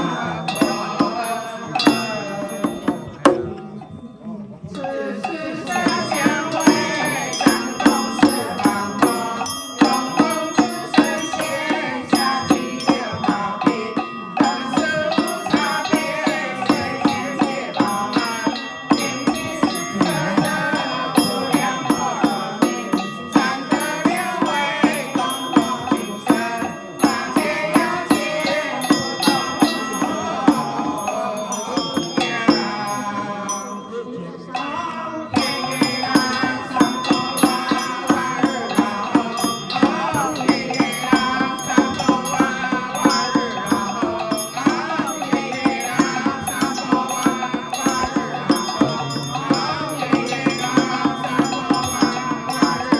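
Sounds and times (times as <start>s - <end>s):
bell ringing: 0.0s - 52.9s
group chanting: 0.0s - 52.9s.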